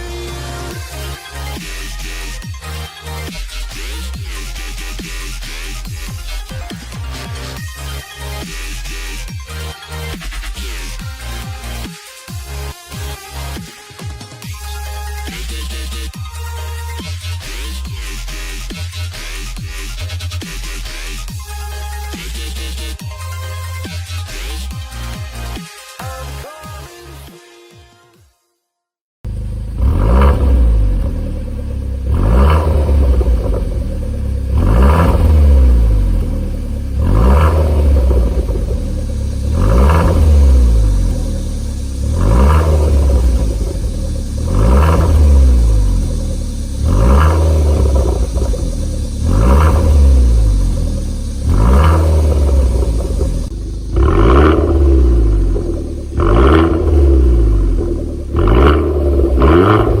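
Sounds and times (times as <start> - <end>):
car engine revving: 0.0 - 13.8, 14.4 - 25.7, 29.3 - 60.0.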